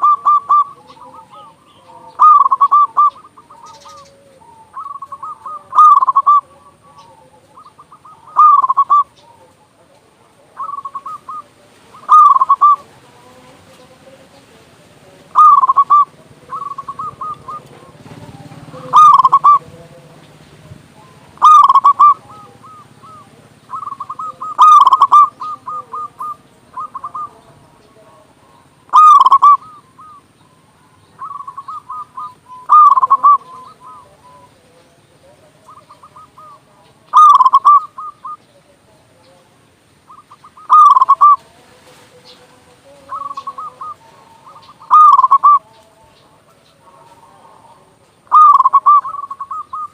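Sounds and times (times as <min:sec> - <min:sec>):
dove cooing: 0:00.0 - 0:49.9
soft rolling bird notes: 0:00.0 - 0:49.9.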